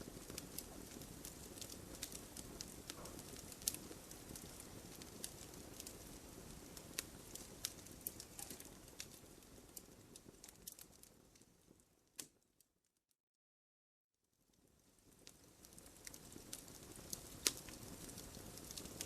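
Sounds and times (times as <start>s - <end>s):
firewood crackling and popping: 0.0s - 12.5s, 14.5s - 19.0s
low rustle of flame: 0.0s - 12.6s, 14.2s - 19.0s.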